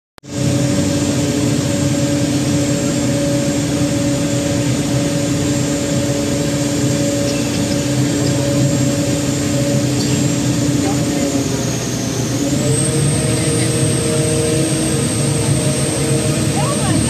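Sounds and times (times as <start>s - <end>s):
boat engine humming: 0.2s - 17.0s.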